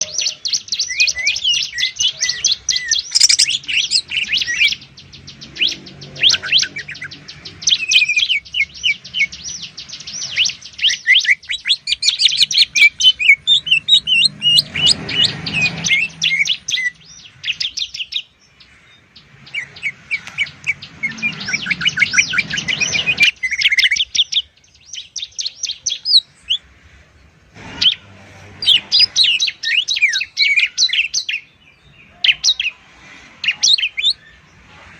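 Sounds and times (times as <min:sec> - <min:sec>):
birds singing rapid high trills: 0:00.0 - 0:34.9.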